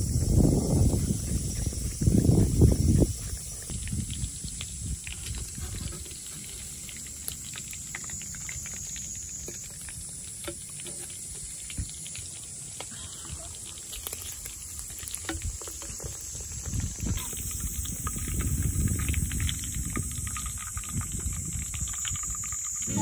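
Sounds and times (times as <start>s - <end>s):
oil sizzling and popping: 0.9s - 23.0s.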